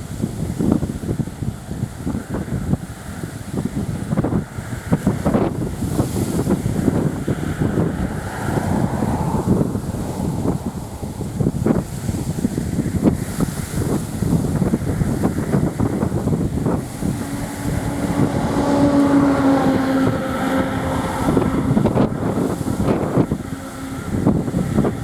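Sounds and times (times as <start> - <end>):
turboprop engines droning: 0.0 - 25.0
wind buffeting microphone: 0.0 - 25.0.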